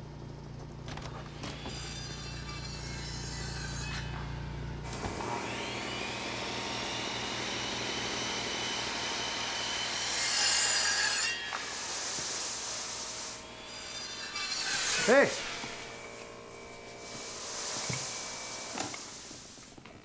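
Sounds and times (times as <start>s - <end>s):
power saw motor whine: 1.0s - 20.0s.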